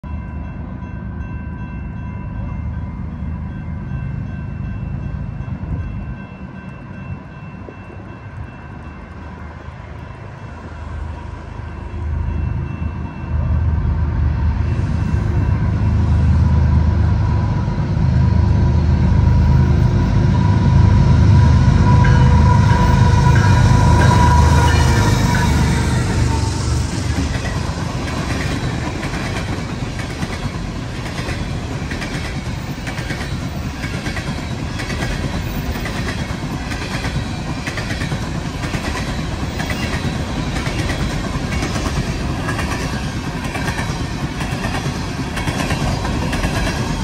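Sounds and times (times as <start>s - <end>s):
diesel locomotive engine rumble: 0.0s - 47.0s.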